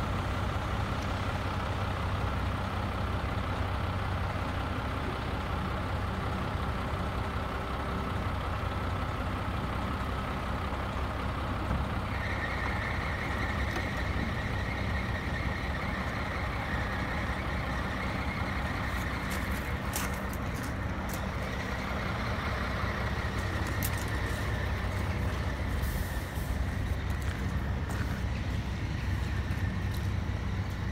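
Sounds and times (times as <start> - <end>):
truck engine running: 0.0 - 30.9.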